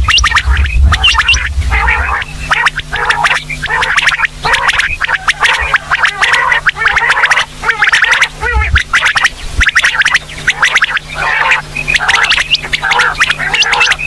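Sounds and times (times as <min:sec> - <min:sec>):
faint low hum: 0:00.0 - 0:14.0
quail chirping calls: 0:00.0 - 0:14.0.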